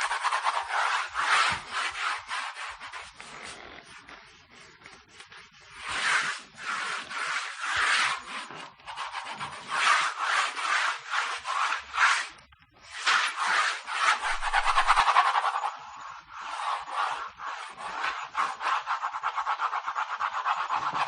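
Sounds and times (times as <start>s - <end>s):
pencil scratching on paper: 0.0s - 21.0s.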